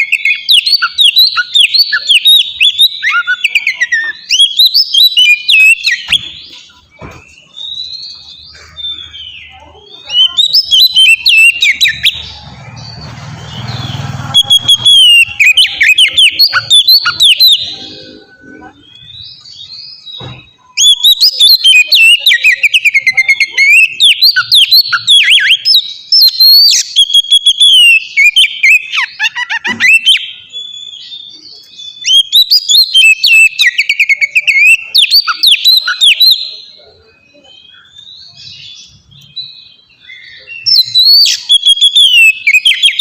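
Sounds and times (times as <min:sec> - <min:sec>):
bird singing whistled phrases: 0:00.0 - 0:12.8, 0:13.6 - 0:43.0.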